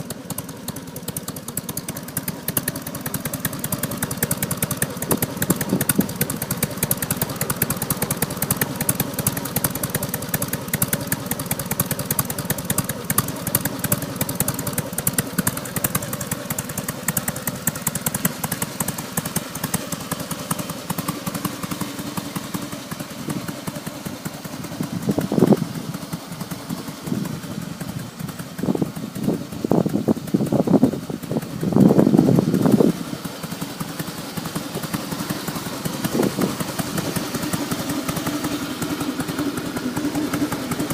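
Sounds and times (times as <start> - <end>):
motorcycle engine idling: 0.0 - 40.9
motorcycle throttle revs: 0.0 - 40.9.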